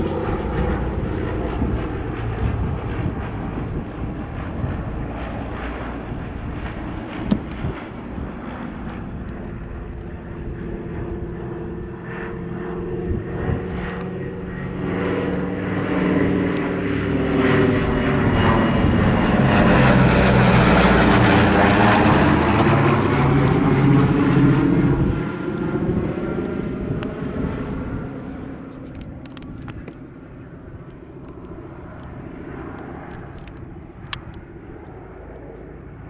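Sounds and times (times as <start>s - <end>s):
propeller aircraft engines passing: 0.0s - 36.0s.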